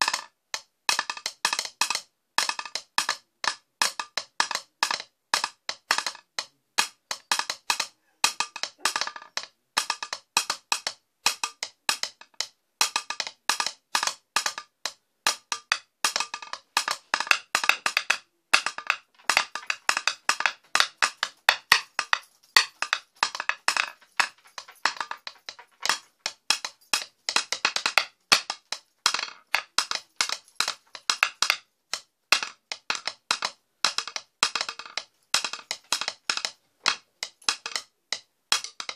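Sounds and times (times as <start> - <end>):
sticks drumming on wooden seat: 0.0 - 38.9.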